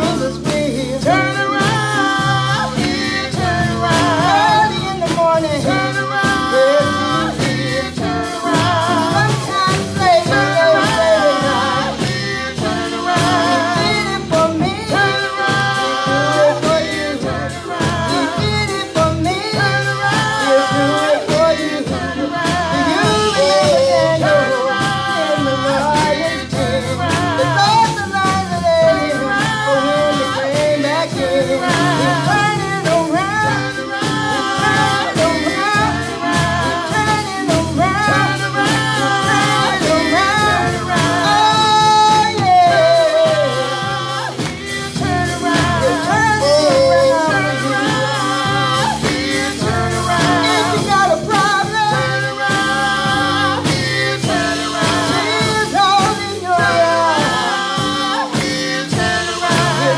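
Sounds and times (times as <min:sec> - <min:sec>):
gospel singing through speakers: 0:00.0 - 0:59.9.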